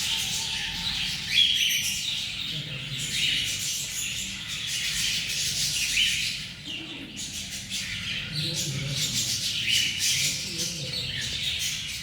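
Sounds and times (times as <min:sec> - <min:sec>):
bird chicks chirping and squawking: 0:00.0 - 0:12.0.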